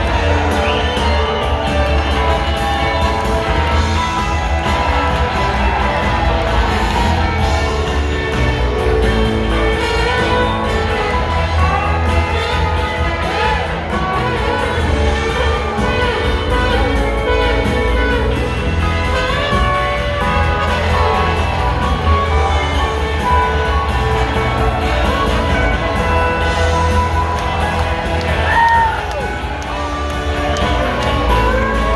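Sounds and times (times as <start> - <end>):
rock band playing instrumental: 0.0 - 31.9.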